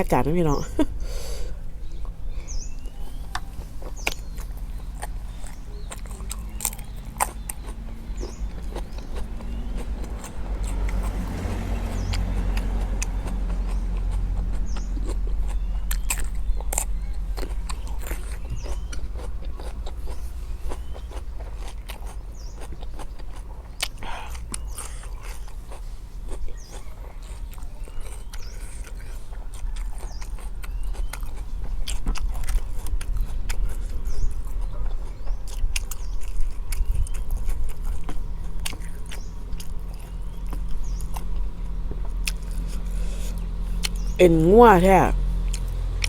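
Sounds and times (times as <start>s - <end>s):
person chewing crunchy food: 1.0s - 44.0s.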